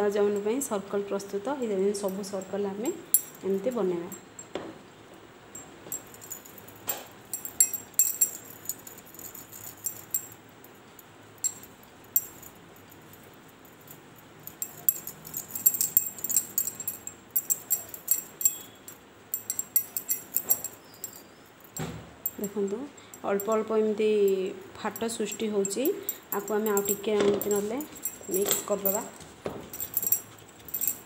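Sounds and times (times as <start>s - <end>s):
bangles clinking: 2.0s - 4.6s, 5.5s - 31.0s.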